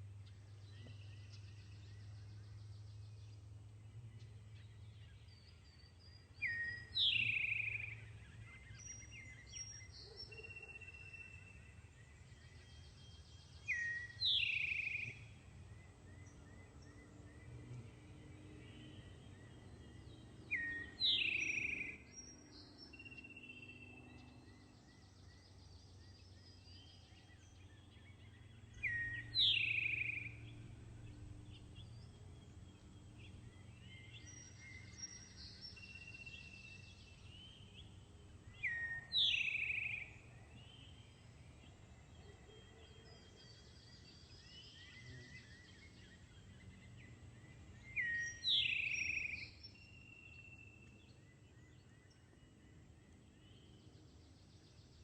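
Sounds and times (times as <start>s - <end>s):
faint forest background: 0.0s - 55.0s
songbird singing: 0.0s - 55.0s.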